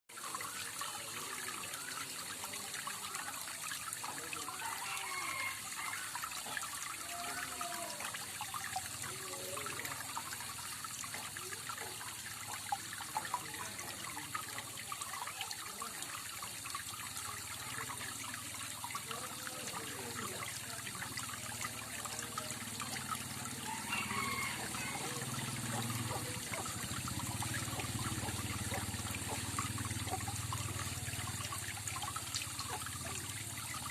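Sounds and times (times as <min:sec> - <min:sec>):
water trickling down small waterfall: 0:00.1 - 0:33.9.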